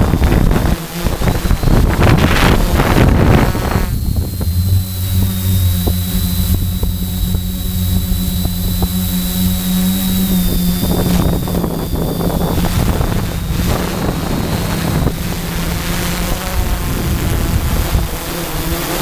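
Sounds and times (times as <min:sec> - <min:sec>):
drone propellers droning: 0:00.0 - 0:19.0
wind noise on microphone: 0:00.0 - 0:19.0.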